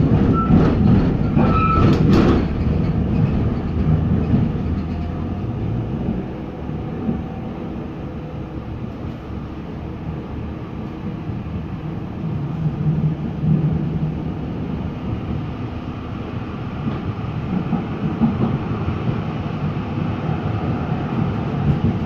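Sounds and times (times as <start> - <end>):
track clacks: 0.0 - 9.2, 12.3 - 22.0
rail car rumble: 0.0 - 22.0.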